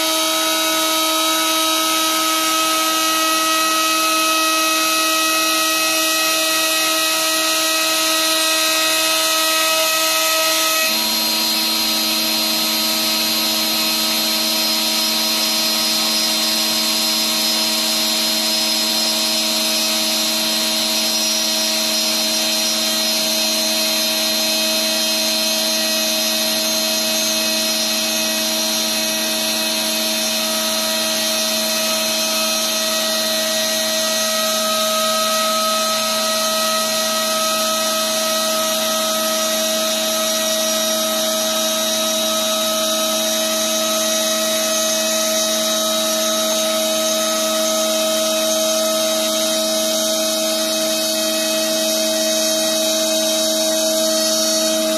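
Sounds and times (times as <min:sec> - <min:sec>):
bit cutting wood: 0:00.0 - 0:54.9
router spindle whine: 0:00.0 - 0:54.9.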